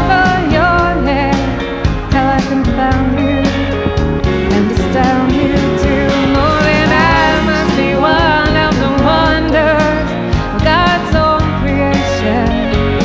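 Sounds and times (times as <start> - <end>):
song with singing over instruments: 0.0 - 13.0.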